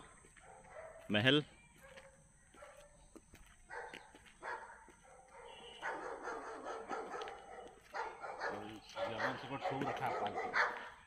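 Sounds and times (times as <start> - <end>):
dog barking: 0.4 - 1.2, 1.8 - 3.0, 3.7 - 11.0.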